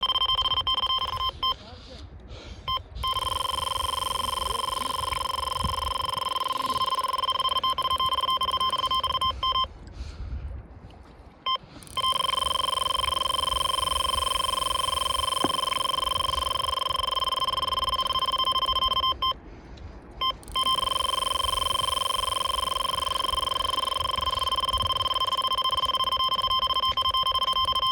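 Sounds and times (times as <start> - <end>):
bite alarm high beep: 0.0 - 1.6, 2.7 - 9.7, 11.9 - 19.4, 20.2 - 27.9.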